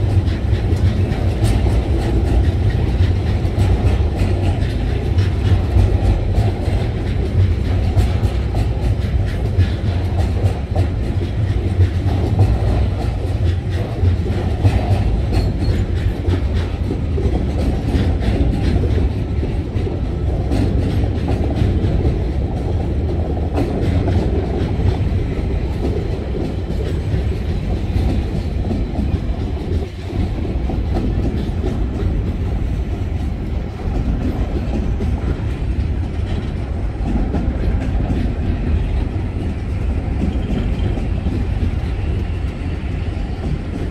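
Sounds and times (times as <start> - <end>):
clickety-clack over rail joints: 0.0 - 43.9
freight train wheels rumbling: 0.0 - 43.9.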